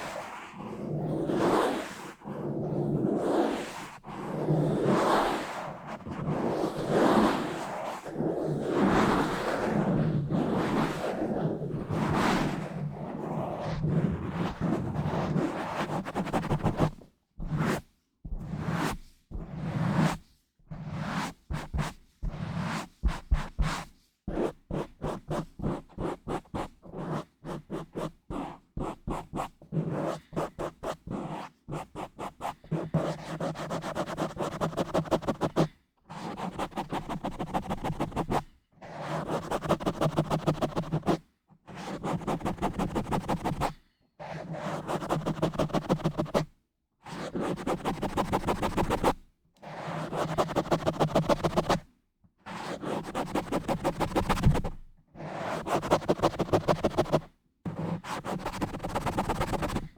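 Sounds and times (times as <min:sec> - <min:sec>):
scratching on a microphone: 0:00.0 - 0:20.2, 0:20.8 - 0:38.5, 0:39.1 - 0:41.2, 0:41.8 - 0:43.7, 0:44.6 - 0:46.5, 0:47.2 - 0:49.2, 0:49.8 - 0:51.9, 0:52.6 - 0:59.9.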